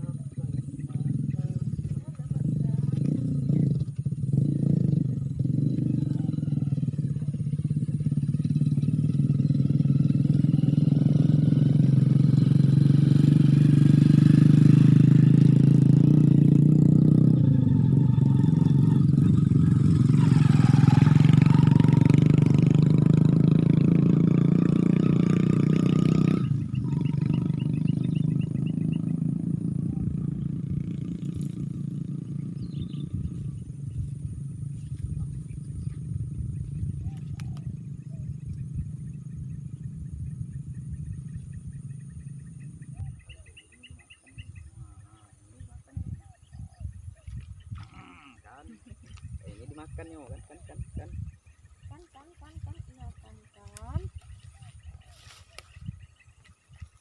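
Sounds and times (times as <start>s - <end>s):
low engine drone: 0.0s - 57.0s.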